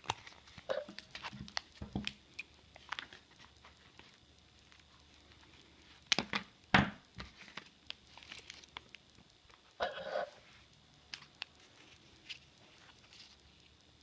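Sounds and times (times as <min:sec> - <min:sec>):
packaging rustling: 0:00.0 - 0:06.5, 0:07.1 - 0:13.8.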